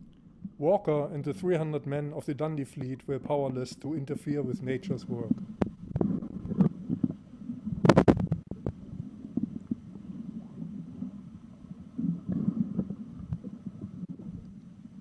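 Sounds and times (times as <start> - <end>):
muffled underwater water rumbling: 0.0 - 15.0.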